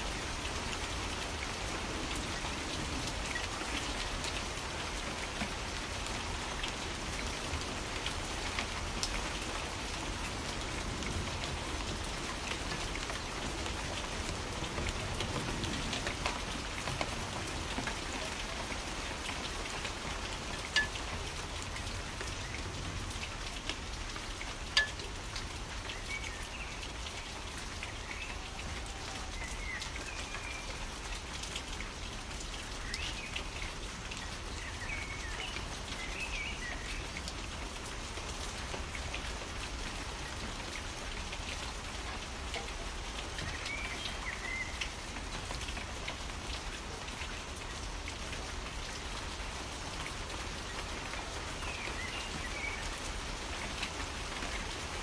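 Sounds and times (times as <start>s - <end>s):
rain falling: 0.0s - 55.0s
raindrops ticking: 0.1s - 55.0s.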